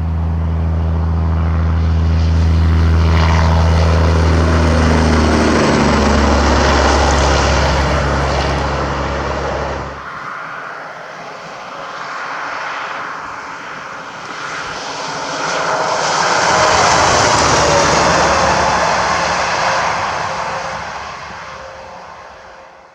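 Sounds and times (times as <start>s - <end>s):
diesel engine drone: 0.0s - 10.6s, 14.1s - 22.9s
passing vehicle tyre and wind noise: 0.0s - 22.6s.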